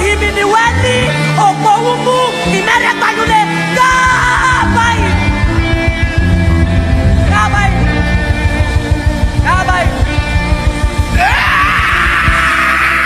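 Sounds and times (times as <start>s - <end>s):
gospel worship music: 0.0s - 13.0s.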